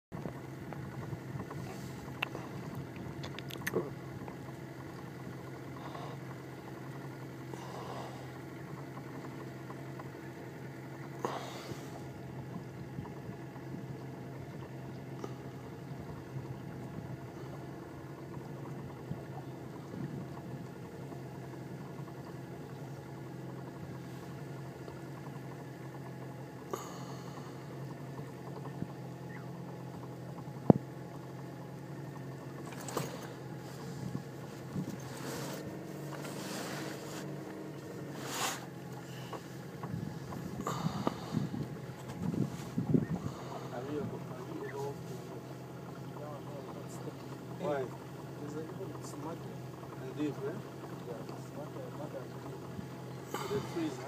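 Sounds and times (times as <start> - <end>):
idling boat engine hum: 0.0 - 54.0.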